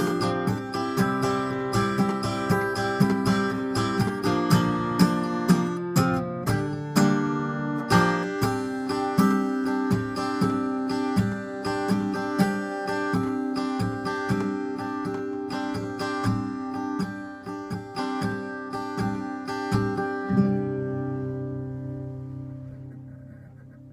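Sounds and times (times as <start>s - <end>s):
acoustic guitar fingerpicking: 0.0s - 23.9s.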